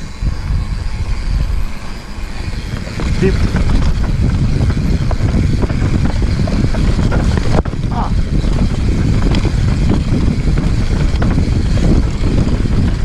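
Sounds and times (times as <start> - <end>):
bike clicks and rattles: 0.0 - 13.0
tyres rolling on dirt: 0.0 - 13.0
wind buffeting microphone: 0.0 - 13.0.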